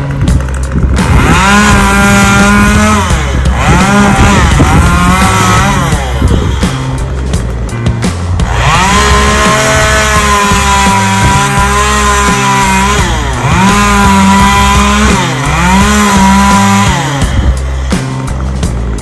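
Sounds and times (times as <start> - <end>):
background music with a beat: 0.0 - 19.0
chainsaw running at high revs: 0.0 - 19.0.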